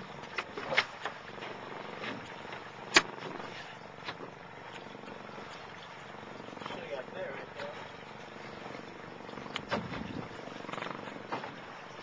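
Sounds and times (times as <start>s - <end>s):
steady rushing noise on boat: 0.0s - 12.0s.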